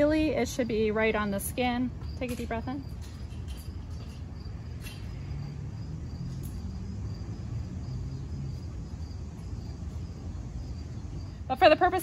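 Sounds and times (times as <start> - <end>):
insects chirring: 0.0 - 12.0
low outdoor rumble: 0.0 - 12.0.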